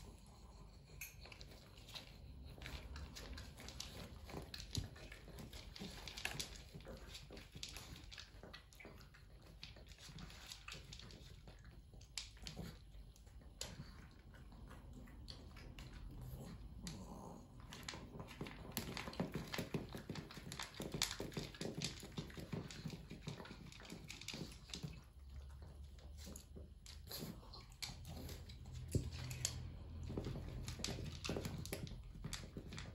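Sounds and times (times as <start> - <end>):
dog crunching dry kibble: 0.0 - 32.9.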